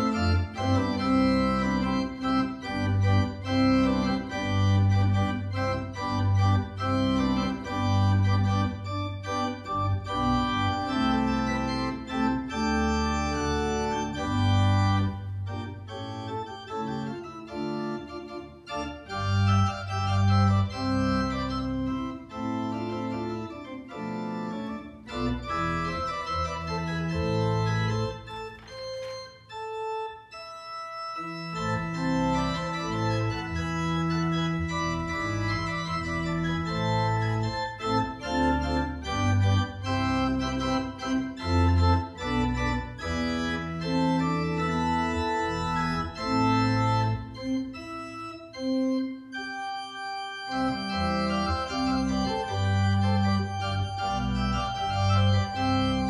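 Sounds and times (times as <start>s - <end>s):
organ music: 0.0s - 56.0s.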